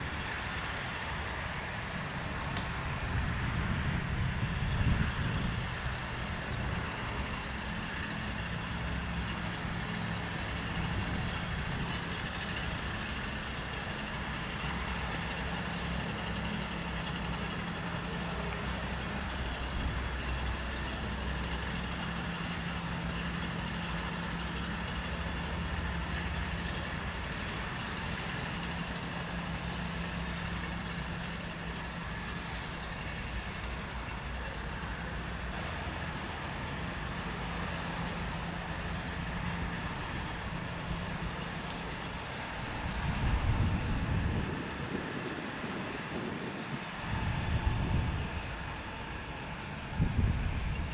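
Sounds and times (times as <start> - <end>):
jet engines idling: 0.0 - 50.9.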